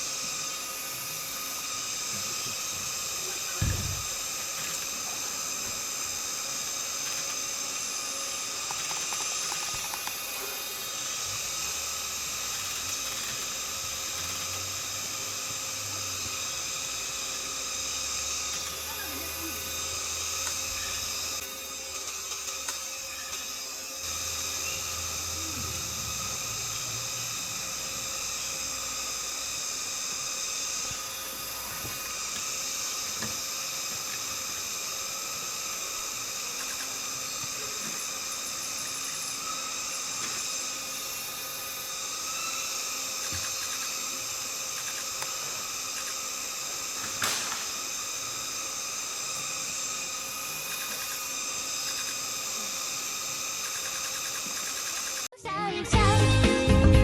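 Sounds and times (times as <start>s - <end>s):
cicadas singing: 0.0s - 55.6s.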